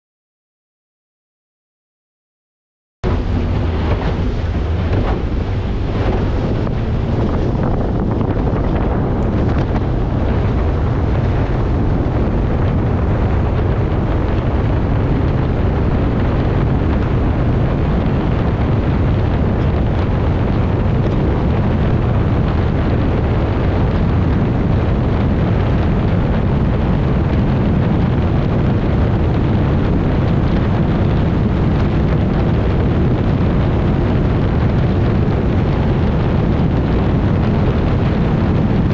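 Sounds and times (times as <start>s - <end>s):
outboard motor running: 3.0s - 38.9s
water rushing past boat: 3.0s - 38.9s
wind buffeting microphone: 3.0s - 38.9s.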